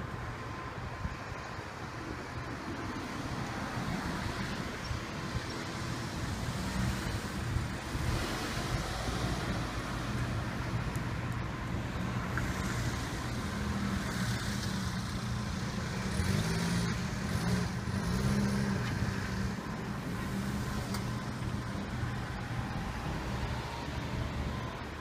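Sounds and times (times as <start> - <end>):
vehicle engines running: 0.0 - 25.0.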